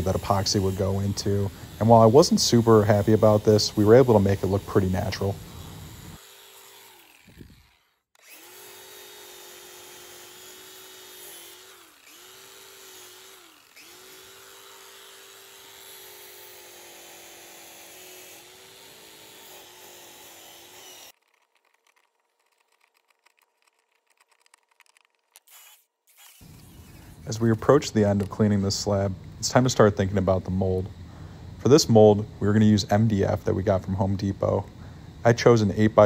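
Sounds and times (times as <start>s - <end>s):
angle grinder grinding wood: 0.0s - 30.8s.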